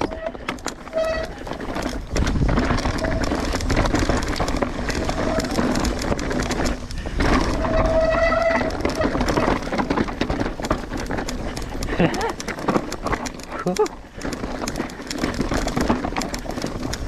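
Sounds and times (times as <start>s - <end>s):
bike tyres on wet trail: 0.0s - 17.0s.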